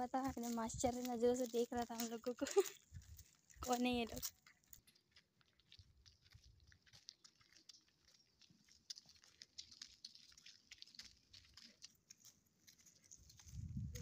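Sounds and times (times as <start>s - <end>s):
footsteps crunching on dirt: 0.0s - 14.0s.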